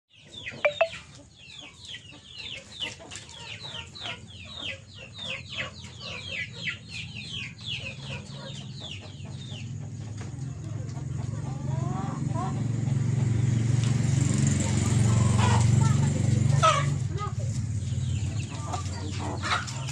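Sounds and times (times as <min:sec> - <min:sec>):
chickens chirping: 0:00.2 - 0:19.9.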